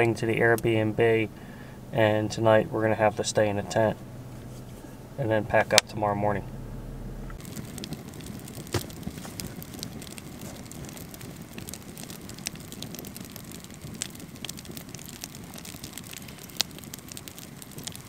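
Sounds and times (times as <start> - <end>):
campfire crackling and popping: 0.0 - 6.6, 7.2 - 18.0.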